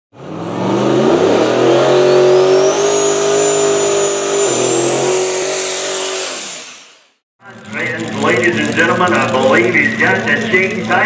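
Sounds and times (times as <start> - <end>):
racing car engine revving: 0.1 - 11.0.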